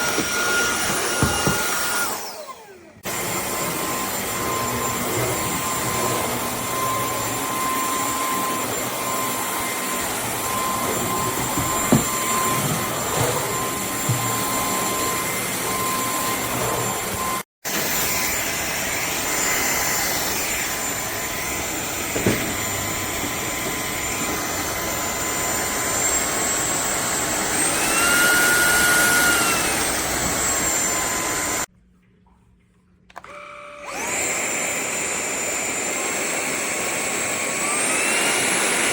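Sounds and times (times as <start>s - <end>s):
vacuum cleaner motor whine: 0.0s - 31.7s, 33.2s - 38.9s.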